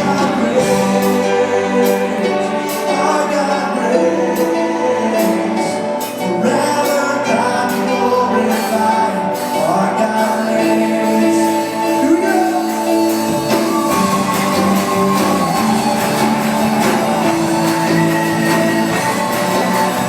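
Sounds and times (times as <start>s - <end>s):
live band playing: 0.0s - 20.0s
voices singing: 0.0s - 20.0s.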